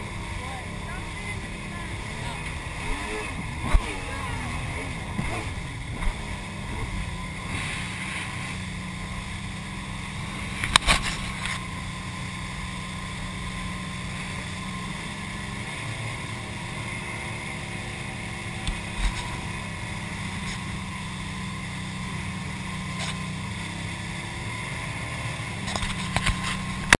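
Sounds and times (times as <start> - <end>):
jet ski engine drone: 0.0 - 27.0
water rushing: 0.0 - 27.0.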